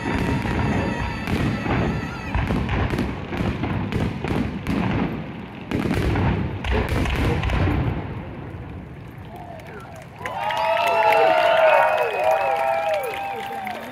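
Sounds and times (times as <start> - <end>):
fireworks bangs: 0.0 - 13.3.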